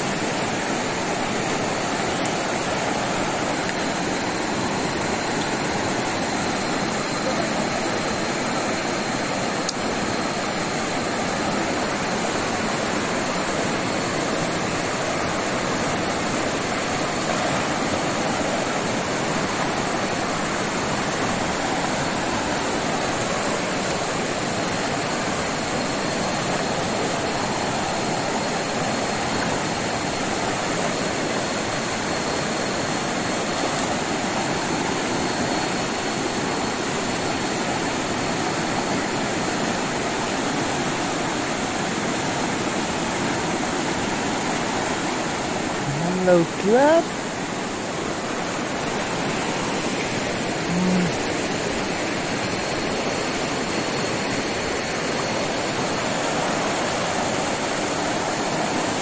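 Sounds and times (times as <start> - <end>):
river rushing over rocks: 0.0 - 59.0.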